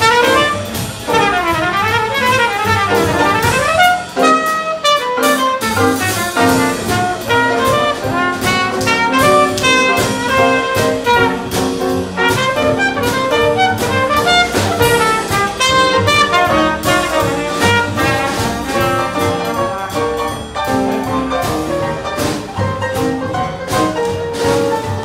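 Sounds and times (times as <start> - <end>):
horns playing melody: 0.0 - 22.5
drums swing beat: 0.0 - 25.0
piano: 0.0 - 25.0
upright bass: 0.0 - 25.0.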